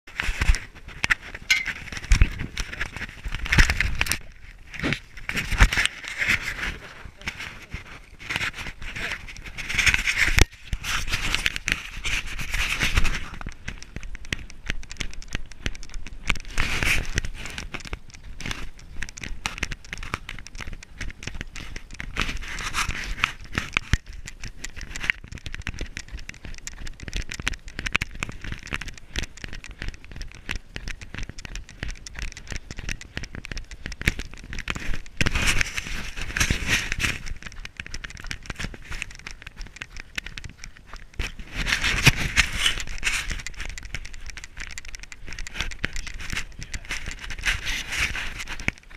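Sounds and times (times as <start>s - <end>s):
clothing rubbing on microphone: 0.1s - 13.8s, 16.3s - 20.7s, 21.5s - 25.4s, 31.2s - 48.9s
running footsteps on snow: 0.1s - 48.9s.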